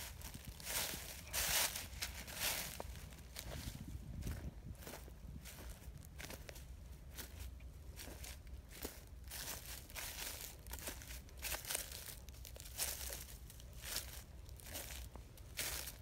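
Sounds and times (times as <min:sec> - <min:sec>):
footsteps in dry leaves: 0:00.0 - 0:16.0.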